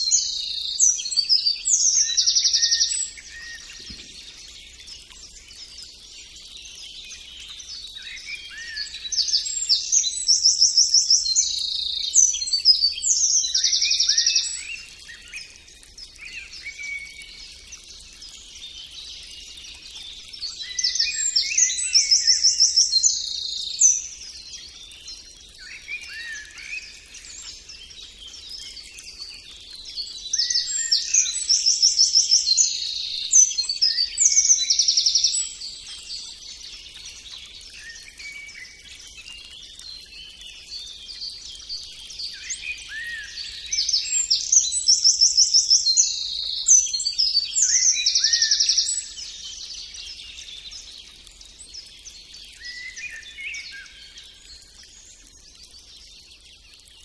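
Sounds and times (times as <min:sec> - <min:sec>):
songbirds chirping and whistling: 0:00.0 - 0:54.9.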